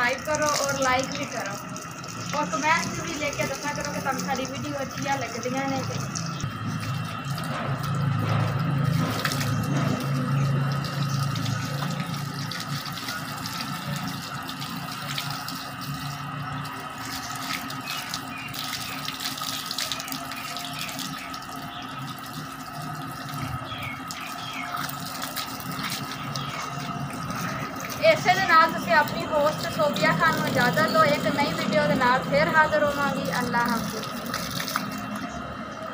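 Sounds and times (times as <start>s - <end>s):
hose water splashing: 0.0s - 35.9s.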